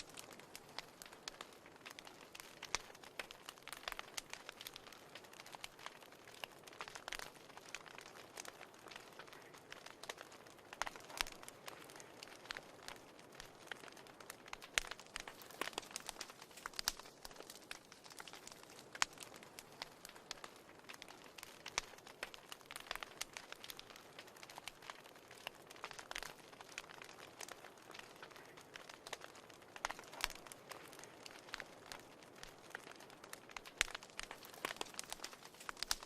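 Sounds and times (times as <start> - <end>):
faint steady hiss: 0.0 - 36.0
wood fire crackling and popping: 0.0 - 36.0.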